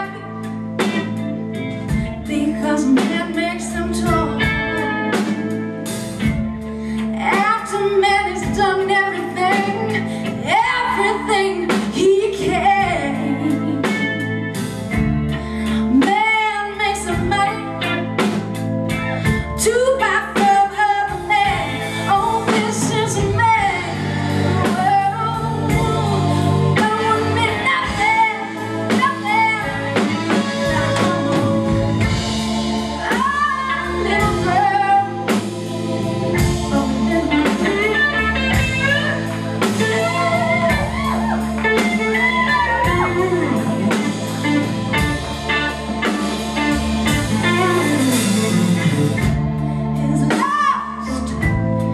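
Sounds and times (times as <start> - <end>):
drum kit: 0.0 - 51.9
electric guitar: 0.0 - 51.9
woman singing lead: 0.0 - 51.9.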